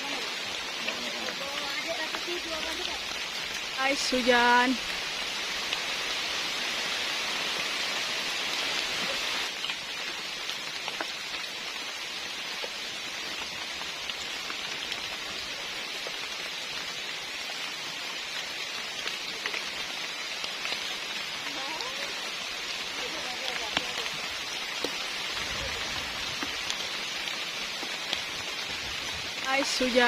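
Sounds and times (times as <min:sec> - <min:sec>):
rain drop ticks: 0:00.0 - 0:30.0
rain falling: 0:00.0 - 0:30.0.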